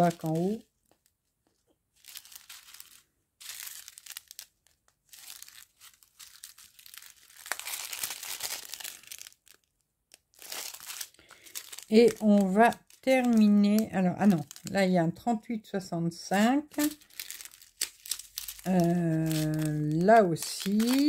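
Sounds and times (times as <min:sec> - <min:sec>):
plastic bags crinkling: 0:00.0 - 0:01.1, 0:01.9 - 0:15.6, 0:16.2 - 0:21.0.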